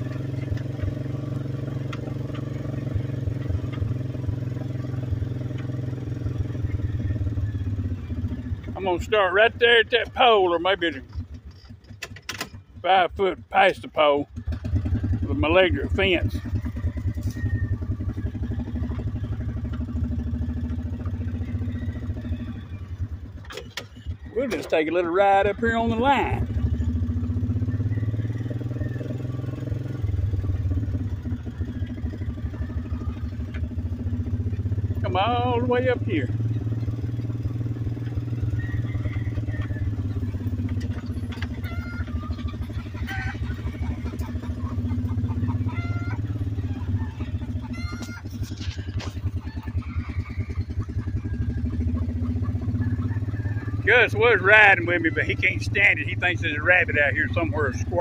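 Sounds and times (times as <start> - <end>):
farm vehicle engine running: 0.0 - 58.0.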